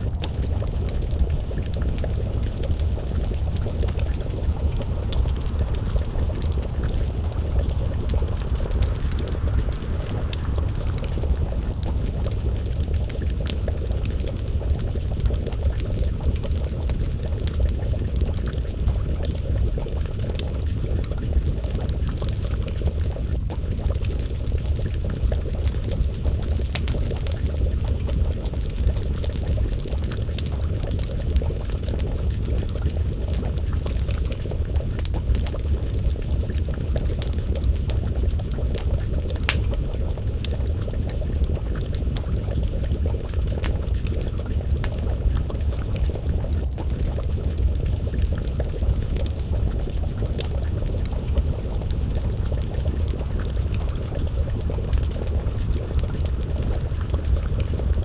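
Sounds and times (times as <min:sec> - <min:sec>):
pot of stew simmering: 0:00.0 - 0:58.0
wood fire crackling and popping: 0:00.0 - 0:58.0.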